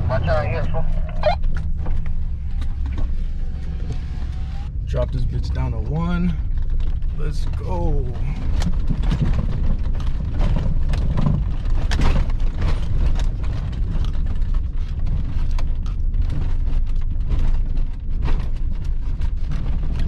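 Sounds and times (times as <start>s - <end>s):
pickup truck engine rumble: 0.0s - 20.0s
truck knocking and rattling: 1.2s - 3.9s, 4.8s - 20.0s.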